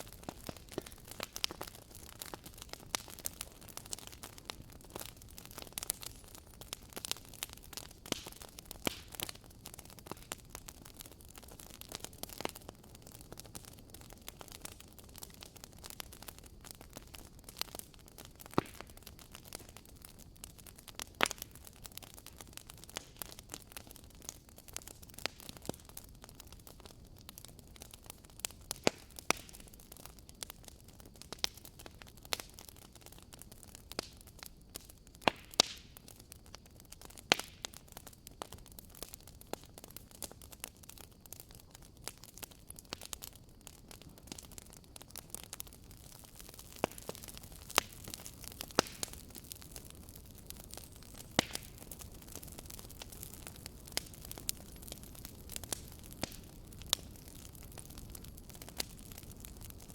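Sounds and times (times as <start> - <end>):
campfire pops and snaps: 0.0 - 59.9
fire burning hiss: 0.0 - 59.9.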